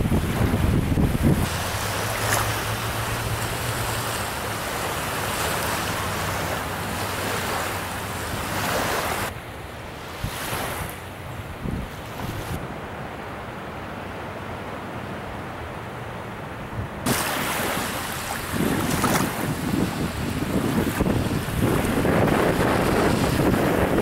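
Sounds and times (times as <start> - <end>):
wind on microphone: 0.0 - 9.4, 10.0 - 12.8, 16.7 - 24.0
waves washing onto beach: 0.0 - 24.0.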